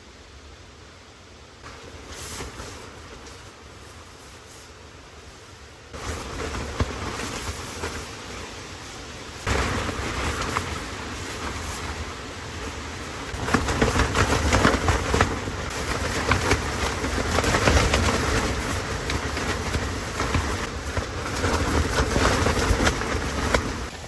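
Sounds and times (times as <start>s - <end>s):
rain pelting a tarp: 0.1s - 24.0s.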